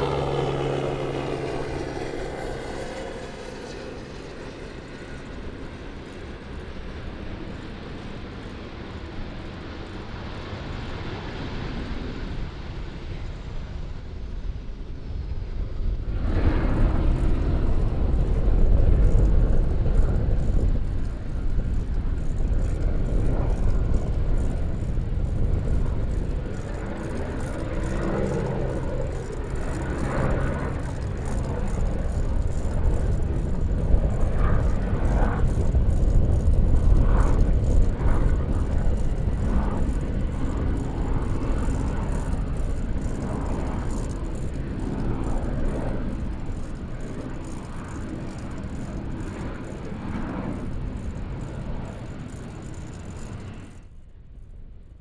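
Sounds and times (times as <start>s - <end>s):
jet engines rumbling: 0.0s - 54.9s.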